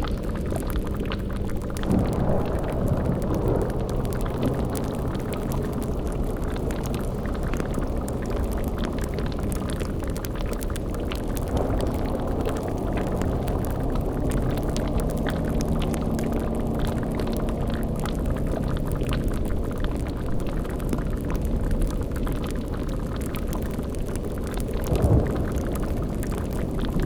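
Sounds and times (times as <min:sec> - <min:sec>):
bubbling: 0:00.0 - 0:27.0
fine crackle: 0:00.0 - 0:27.0
low droning tones: 0:00.0 - 0:27.0
low rumble: 0:00.0 - 0:27.0.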